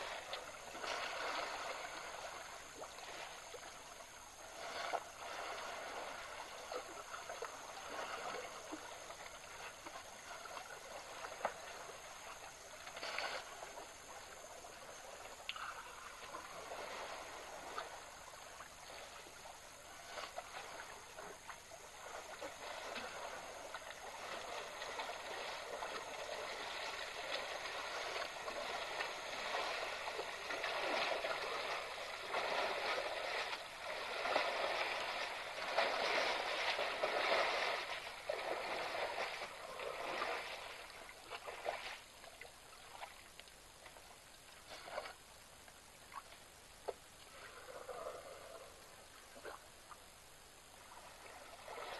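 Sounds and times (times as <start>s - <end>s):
elephants splashing in water: 0.0s - 43.8s, 50.8s - 51.9s.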